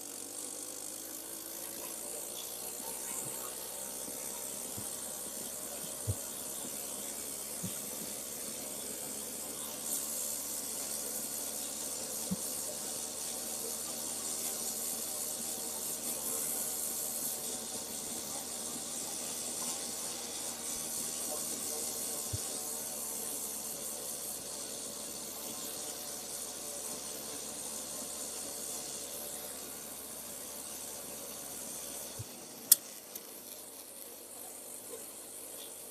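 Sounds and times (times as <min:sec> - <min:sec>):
snowmobile engine running: 0:00.0 - 0:32.7
track hissing on snow: 0:00.0 - 0:35.9.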